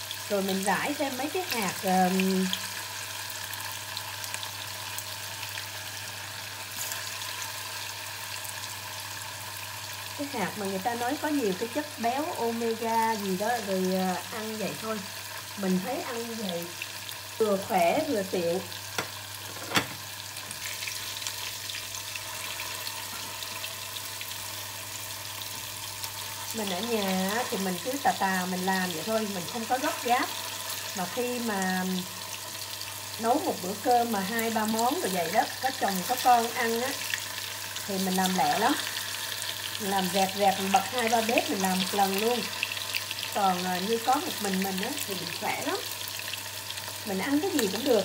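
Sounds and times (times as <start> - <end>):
tofu sizzling in oil: 0.0 - 48.0.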